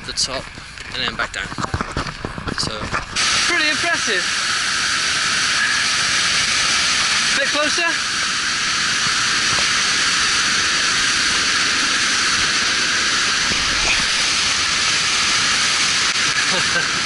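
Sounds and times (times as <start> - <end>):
waterfall hissing: 3.1 - 17.0.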